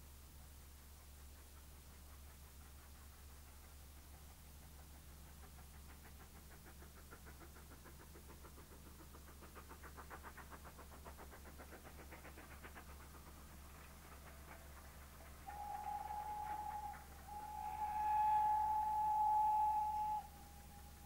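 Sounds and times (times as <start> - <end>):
distant steam locomotive chuffing: 0.0 - 21.0.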